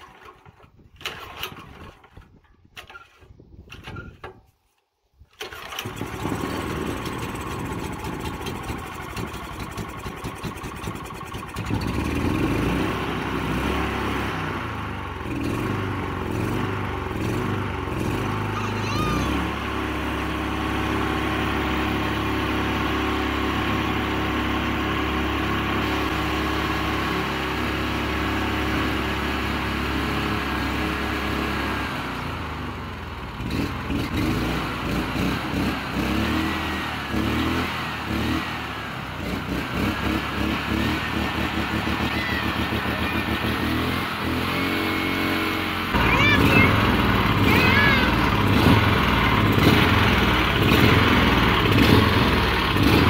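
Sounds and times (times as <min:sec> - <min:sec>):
single-cylinder engine running: 0:05.3 - 0:53.0.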